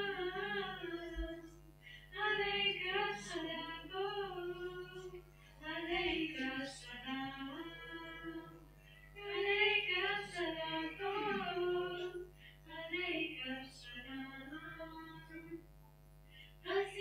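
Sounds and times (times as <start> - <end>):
women singing: 0.0 - 15.6, 16.6 - 17.0.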